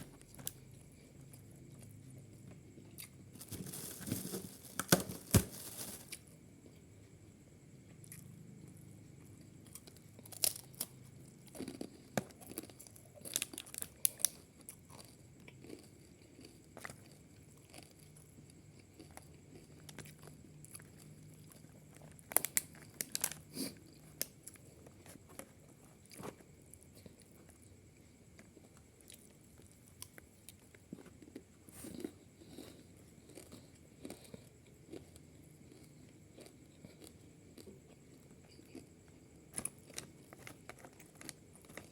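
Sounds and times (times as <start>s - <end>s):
person chewing and crunching: 0.2s - 6.2s, 9.3s - 26.2s, 26.8s - 41.9s.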